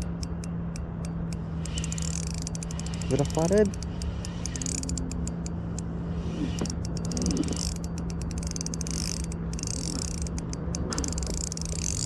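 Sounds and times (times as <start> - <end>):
fishing reel clicking: 0.0 - 12.0
low hum and rumble: 0.0 - 12.0.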